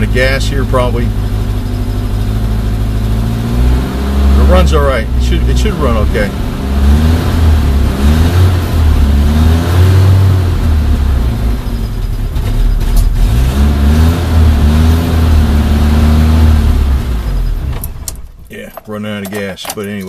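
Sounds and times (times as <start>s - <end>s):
car engine revving: 0.0s - 19.1s.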